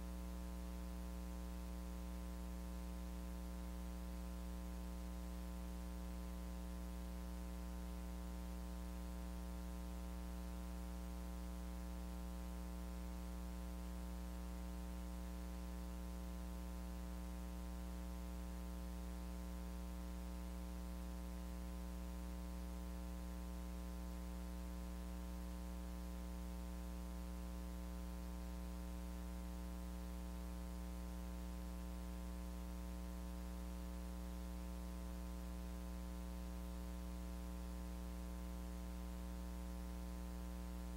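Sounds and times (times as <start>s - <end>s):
electrical mains hum: 0.0s - 40.9s.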